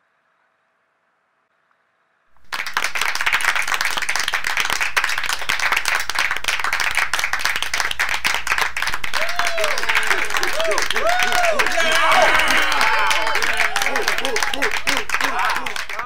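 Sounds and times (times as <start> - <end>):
audience applause: 2.4 - 16.0.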